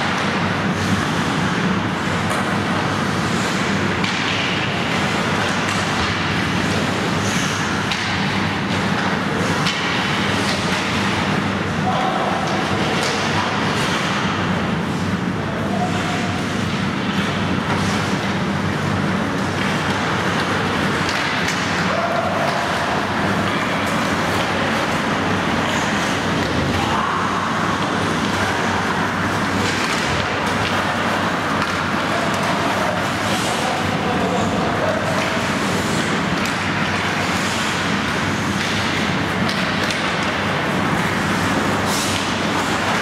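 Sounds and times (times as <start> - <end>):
hockey sticks and puck clacking: 0.0 - 15.1, 15.7 - 18.5, 19.1 - 43.0
rumbling ice rink ambience: 0.0 - 43.0.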